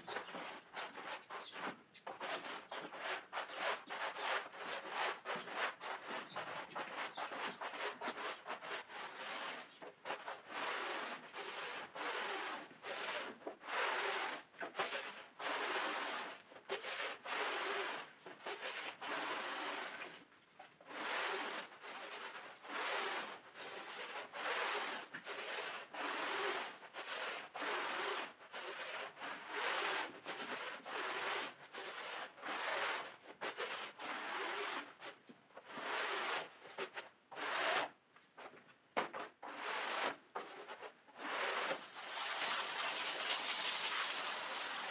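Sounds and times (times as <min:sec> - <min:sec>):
scrubber rasping on wet rug: 0:00.1 - 0:20.3, 0:20.9 - 0:38.6, 0:39.2 - 0:44.9.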